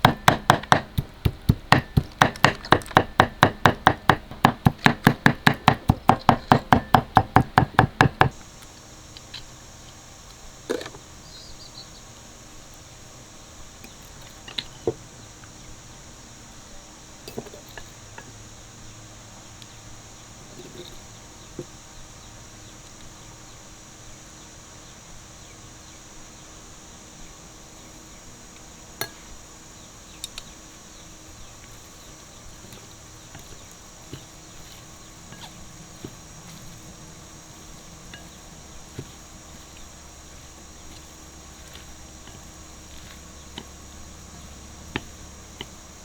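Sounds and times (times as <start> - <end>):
high insect chorus: 0.0 - 46.0.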